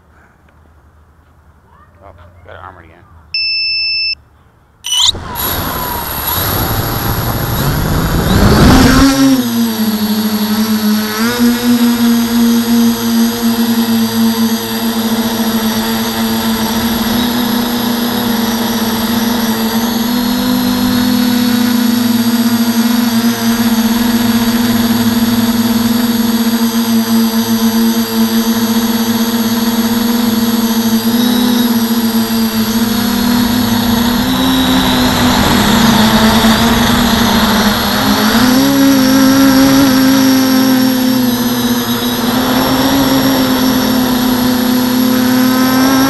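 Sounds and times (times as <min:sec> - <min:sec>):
quadcopter motors buzzing: 0:04.8 - 0:46.0.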